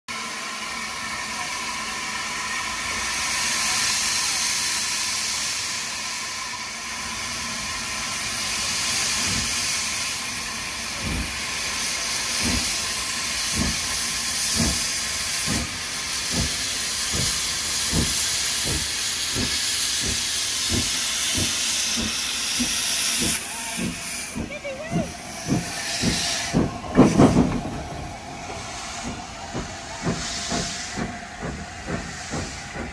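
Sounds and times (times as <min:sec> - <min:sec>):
steam hissing from cylinders: 0:00.1 - 0:32.9
steam locomotive exhaust chuffs: 0:00.1 - 0:32.9.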